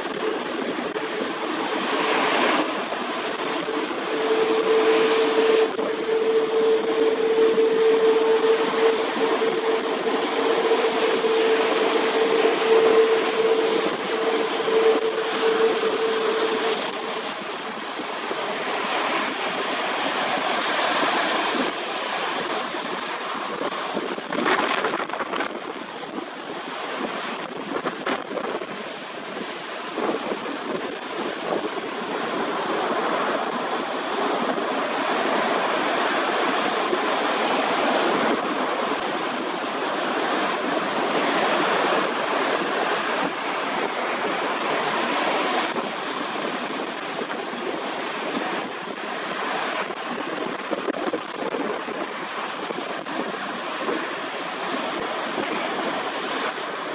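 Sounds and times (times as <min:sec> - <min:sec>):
jet engines running: 0:00.0 - 0:56.9
thin high whine: 0:00.0 - 0:56.9.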